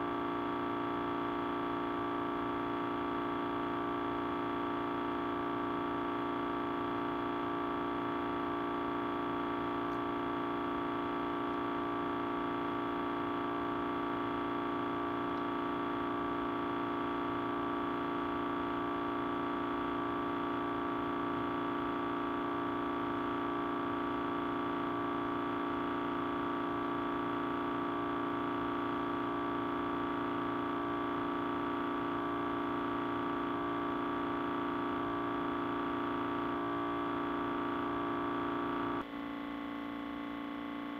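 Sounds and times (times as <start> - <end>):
audio feedback drone: 0.0 - 40.9.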